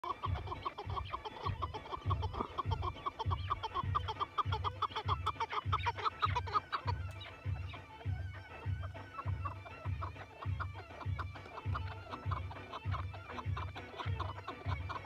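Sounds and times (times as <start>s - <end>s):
partridge clucking calls: 0.0s - 15.0s.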